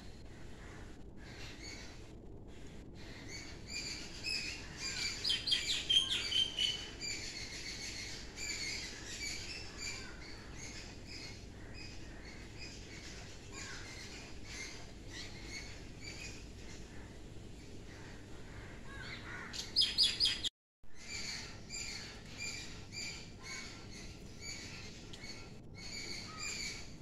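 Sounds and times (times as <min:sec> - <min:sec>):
birds chirping: 0:03.0 - 0:27.0.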